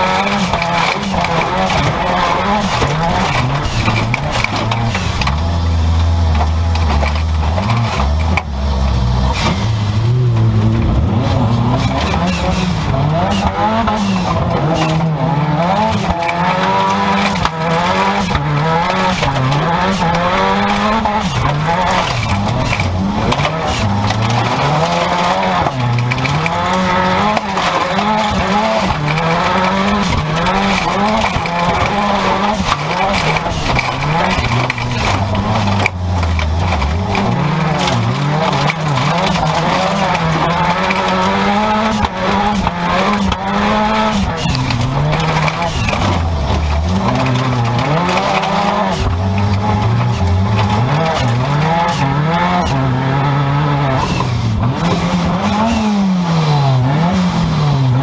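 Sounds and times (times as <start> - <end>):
car engine revving: 0.0 - 58.0
knocks and rattles: 0.0 - 58.0.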